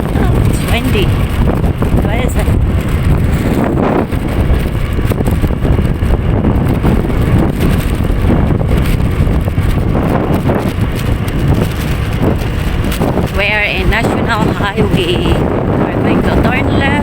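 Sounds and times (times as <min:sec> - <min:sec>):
vehicle rumble: 0:00.0 - 0:17.0
wind buffeting microphone: 0:00.0 - 0:17.0.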